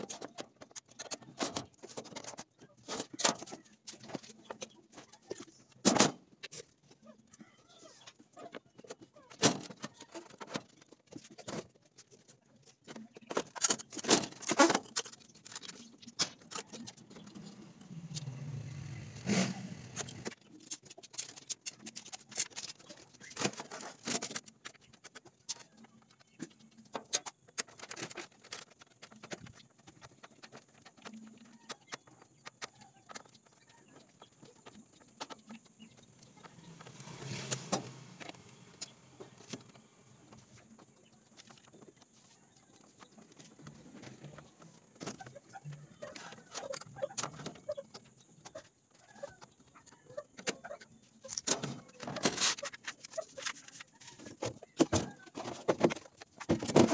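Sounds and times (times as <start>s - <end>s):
knocks and clatter of speaker parts: 8.4s - 17.8s, 20.0s - 56.9s.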